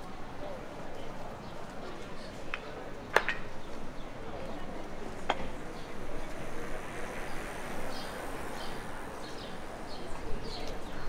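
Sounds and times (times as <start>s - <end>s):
street background noise: 0.0s - 11.0s.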